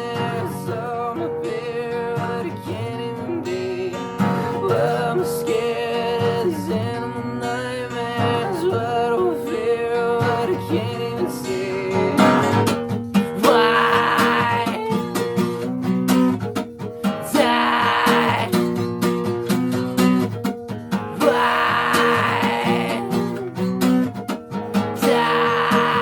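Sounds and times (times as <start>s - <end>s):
grunge song with guitar: 0.0s - 26.0s.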